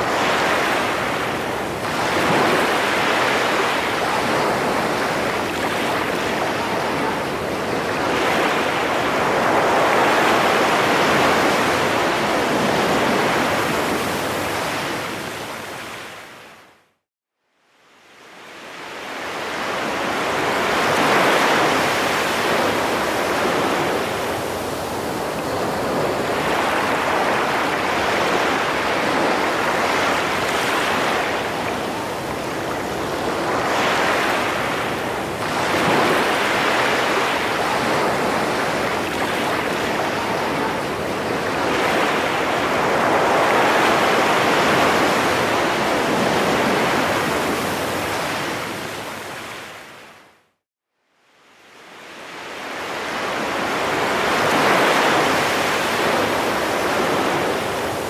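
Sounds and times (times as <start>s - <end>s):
ocean surf on beach: 0.0s - 16.8s, 17.8s - 50.5s, 51.2s - 58.0s.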